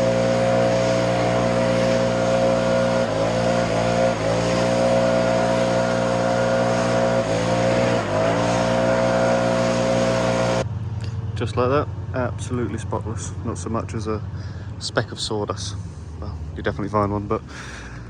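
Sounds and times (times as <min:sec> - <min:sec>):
small petrol engine running: 0:00.0 - 0:14.7.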